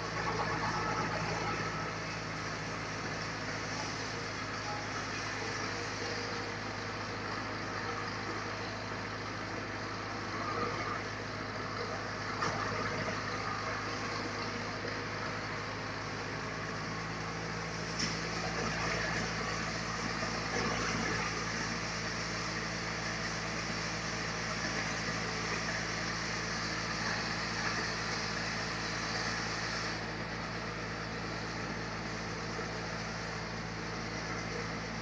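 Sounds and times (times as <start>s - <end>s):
sawmill engine drone: 0.0s - 35.0s.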